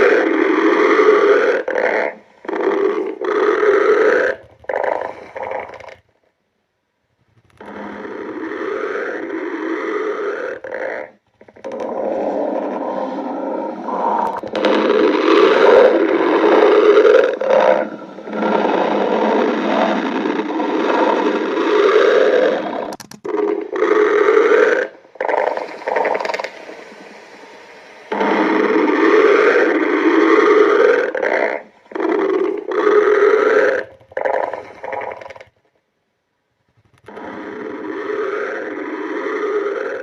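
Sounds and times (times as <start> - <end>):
stomach growling: 0.0 - 6.4, 7.1 - 35.8, 36.6 - 40.0.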